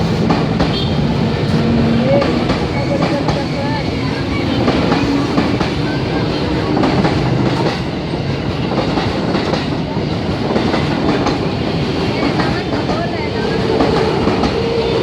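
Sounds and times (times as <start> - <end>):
electric train rumbling past: 0.0 - 15.0.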